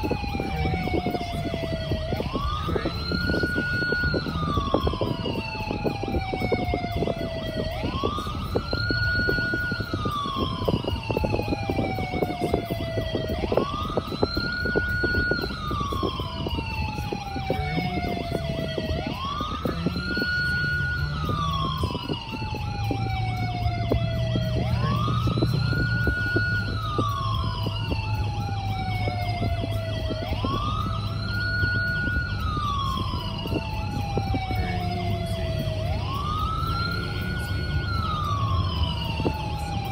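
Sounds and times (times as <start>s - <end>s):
low road rumble: 0.0s - 39.9s
wail siren cycling: 0.0s - 39.9s.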